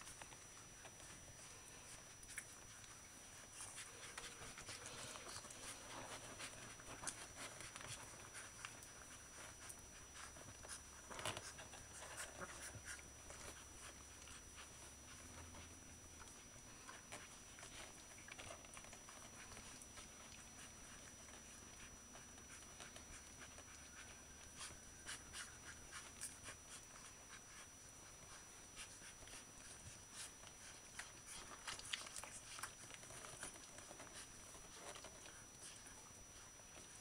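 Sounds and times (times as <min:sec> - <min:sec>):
puppies scuffling: 0:00.0 - 0:37.0
puppies suckling clicks: 0:00.0 - 0:37.0.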